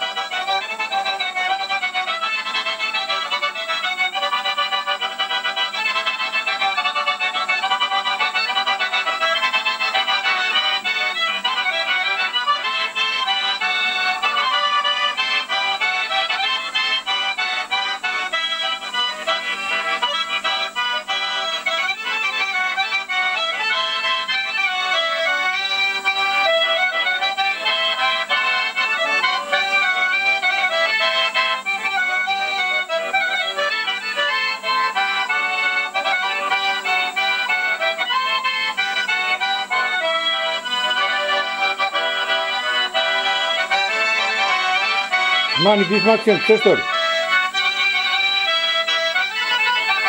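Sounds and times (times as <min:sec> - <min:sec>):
button accordion playing lively tune: 0:00.0 - 0:50.0.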